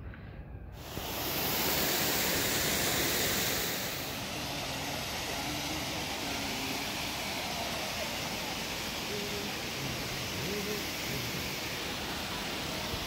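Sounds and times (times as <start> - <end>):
waterfall roaring: 0.8 - 13.0.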